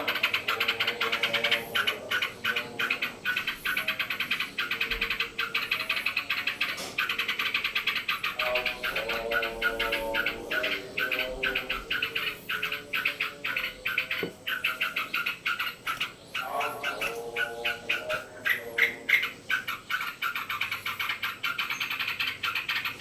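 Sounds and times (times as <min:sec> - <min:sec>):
bird chattering calls: 0:00.0 - 0:23.0.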